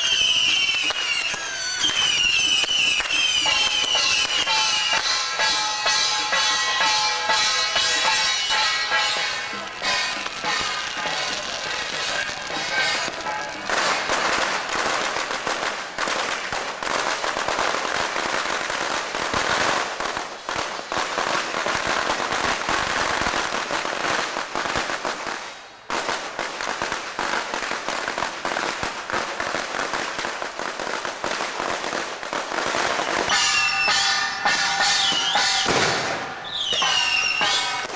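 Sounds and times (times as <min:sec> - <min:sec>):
firecrackers crackling: 0:00.0 - 0:37.9.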